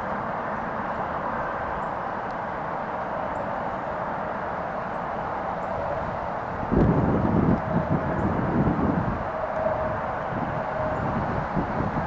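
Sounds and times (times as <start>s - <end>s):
steel wheels rushing on rail: 0.0s - 12.0s.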